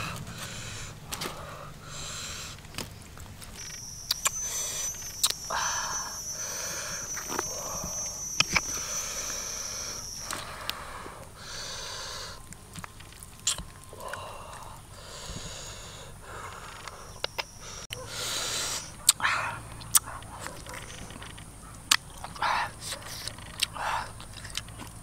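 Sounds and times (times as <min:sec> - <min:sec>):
high-pitched whine: 0:00.0 - 0:24.2.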